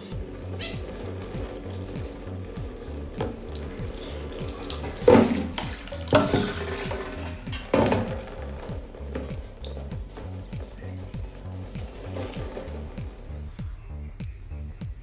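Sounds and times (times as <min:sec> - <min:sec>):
water pouring and splashing: 0:00.0 - 0:13.6
background music with steady beat: 0:00.0 - 0:15.0.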